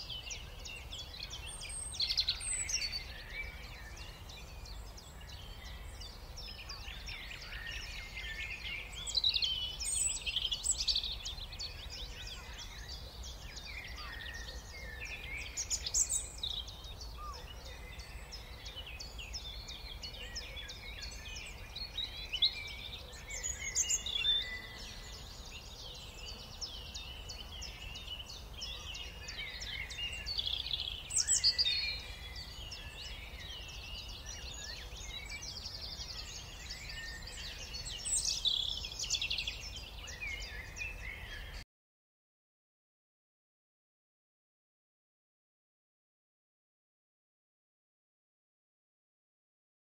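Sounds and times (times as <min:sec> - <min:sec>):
songbirds chirping and trilling: 0:00.0 - 0:41.6.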